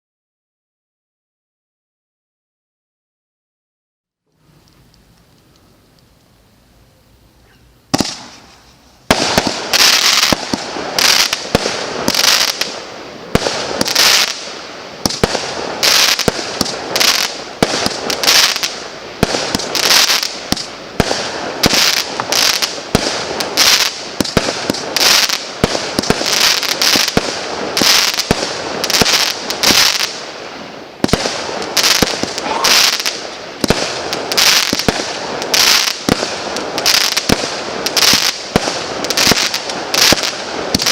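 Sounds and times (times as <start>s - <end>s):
firework crackling: 4.3s - 40.9s
firework launches and bursts: 7.9s - 40.9s.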